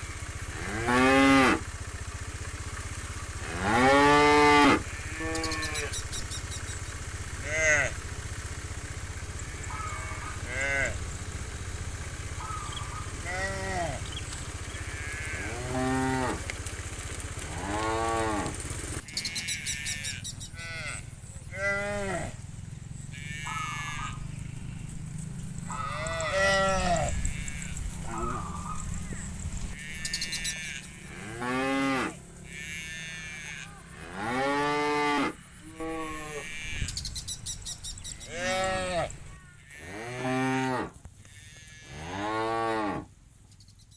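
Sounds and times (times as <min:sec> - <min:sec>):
steady low hum: 0:00.0 - 0:39.5
cattle mooing: 0:00.4 - 0:01.7, 0:03.3 - 0:06.0, 0:07.3 - 0:16.5, 0:17.5 - 0:37.1, 0:38.1 - 0:43.1.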